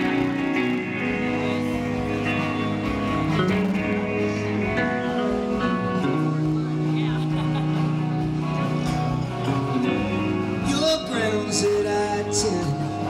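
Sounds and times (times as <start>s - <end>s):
drums: 0.0s - 13.0s
electric guitar chords: 0.0s - 13.0s.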